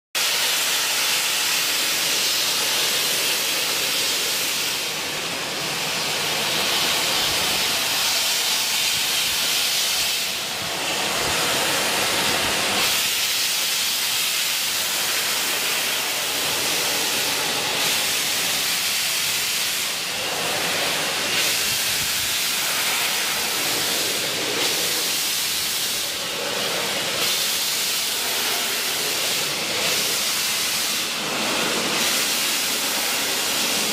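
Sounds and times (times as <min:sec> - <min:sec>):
steam locomotive hissing: 0:00.2 - 0:33.9.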